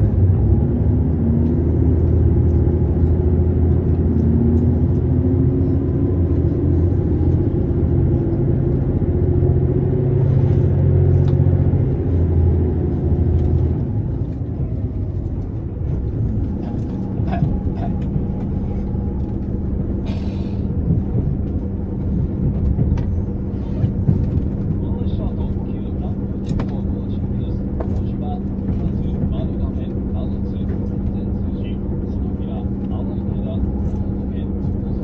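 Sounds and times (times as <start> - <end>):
diesel railcar engine whining: 0.0 - 35.0
steady low hum: 0.0 - 35.0.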